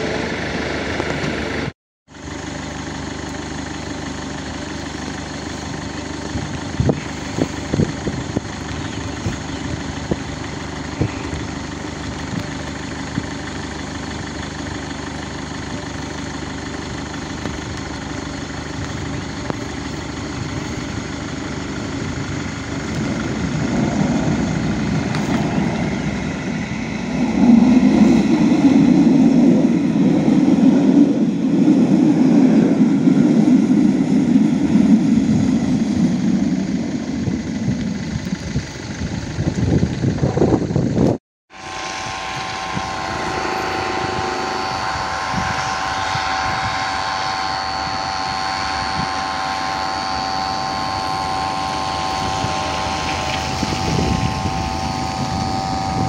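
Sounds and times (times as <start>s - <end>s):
diesel train passing: 0.0s - 56.0s
level crossing warning tone: 4.3s - 37.2s, 41.5s - 56.0s.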